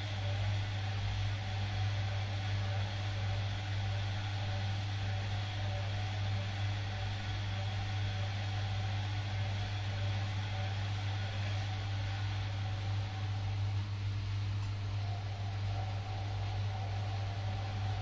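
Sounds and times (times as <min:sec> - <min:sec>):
washing machine spinning: 0:00.0 - 0:18.0.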